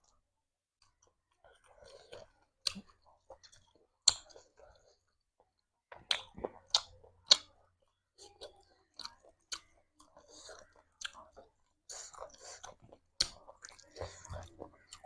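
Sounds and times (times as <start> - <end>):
person chewing food: 0.8 - 15.0.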